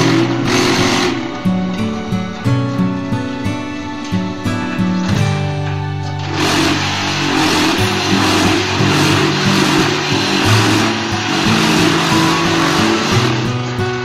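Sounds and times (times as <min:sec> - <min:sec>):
faint guitar music: 0:00.0 - 0:14.0
machine buzzing and rattling: 0:00.0 - 0:14.0.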